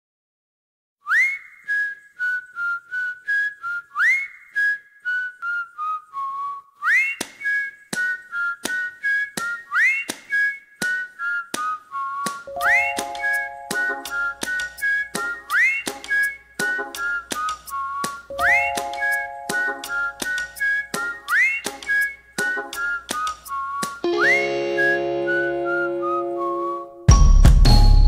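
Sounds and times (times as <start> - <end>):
whistled tune: 1.0 - 28.0.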